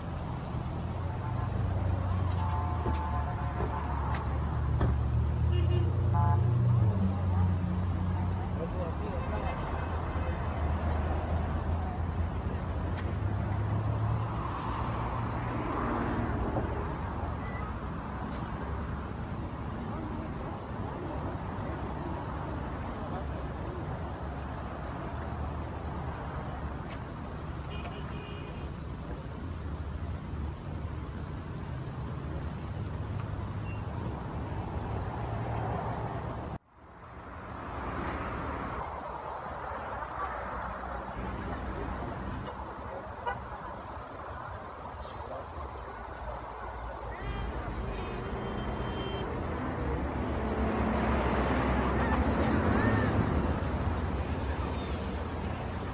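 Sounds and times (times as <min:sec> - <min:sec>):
road traffic rumble: 0:00.0 - 0:55.9
hiss of passing cars: 0:06.4 - 0:55.9.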